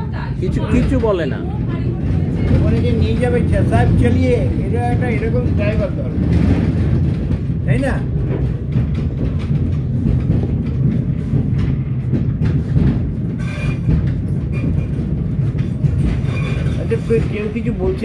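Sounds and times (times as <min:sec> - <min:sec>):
train running gear rumble: 0:00.0 - 0:18.0
train wheels clicking over track: 0:00.6 - 0:18.0.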